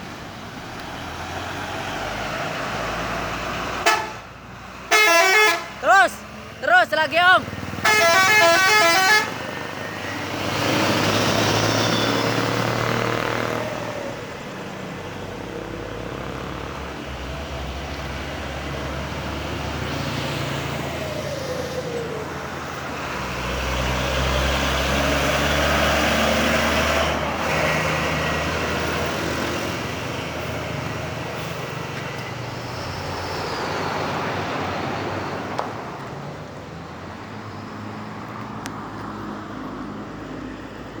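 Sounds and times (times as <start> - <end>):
heavy vehicle passing: 0.0 - 41.0
road traffic: 0.0 - 41.0.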